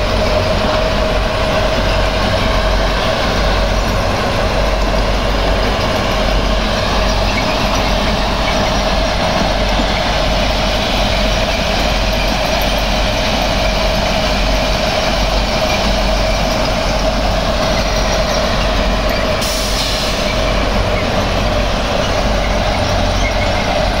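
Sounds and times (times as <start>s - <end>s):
machine mechanical drone: 0.0s - 24.0s.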